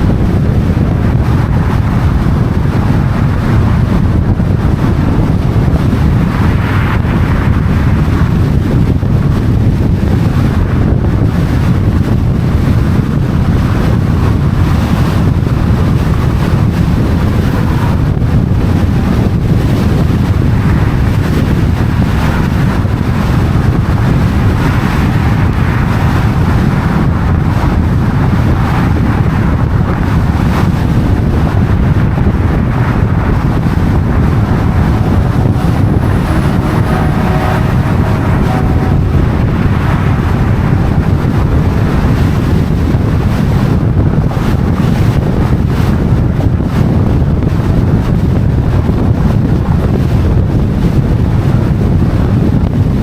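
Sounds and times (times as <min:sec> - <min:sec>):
street traffic: 0:00.0 - 0:47.0
wind buffeting microphone: 0:00.0 - 0:53.0.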